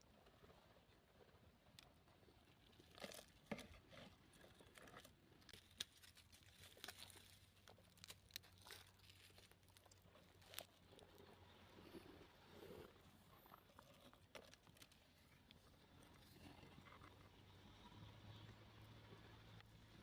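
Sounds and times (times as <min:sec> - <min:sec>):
crackling and rustling: 0:00.2 - 0:18.6.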